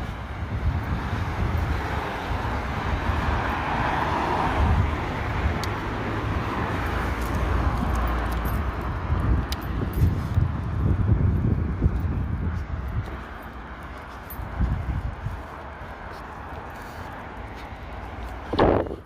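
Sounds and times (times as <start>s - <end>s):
car passing: 0.0s - 19.0s
wind buffeting microphone: 0.0s - 19.0s.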